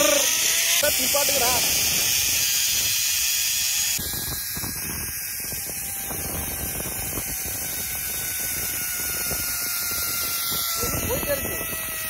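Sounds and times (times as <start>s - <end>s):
zipline trolley whirring on cable: 0.0s - 12.0s
wind buffeting microphone: 0.1s - 12.0s.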